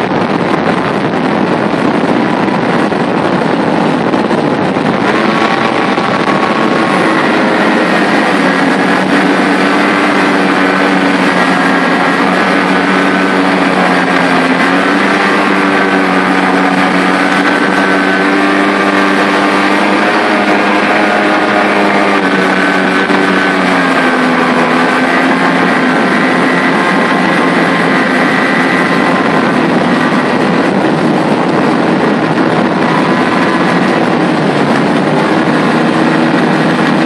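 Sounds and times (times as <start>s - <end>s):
watercraft engines running: 0.0s - 37.0s.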